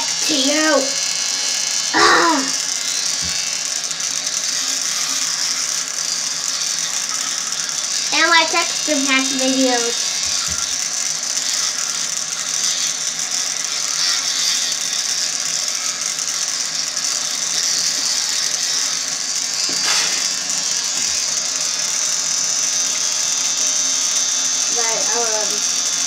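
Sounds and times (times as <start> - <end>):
electric toothbrush buzzing: 0.0 - 26.0.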